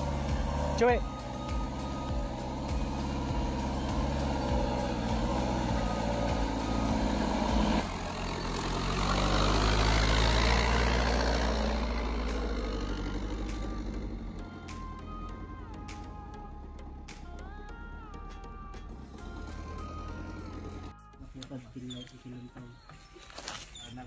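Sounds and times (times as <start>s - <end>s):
diesel truck engine running: 0.0s - 22.8s.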